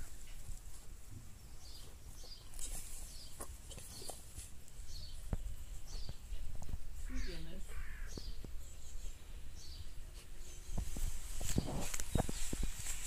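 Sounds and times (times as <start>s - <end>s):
small bird chirping: 1.4s - 13.0s.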